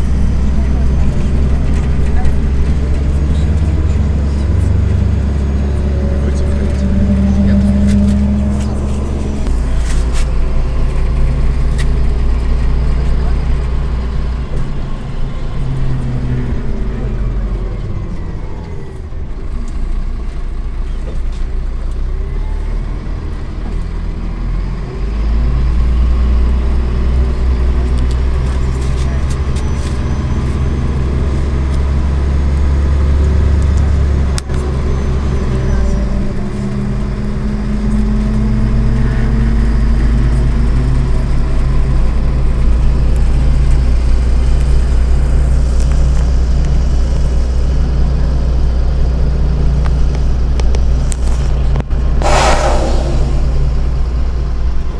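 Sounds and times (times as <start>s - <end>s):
bus engine droning: 0.0s - 54.9s
road noise: 0.0s - 54.9s.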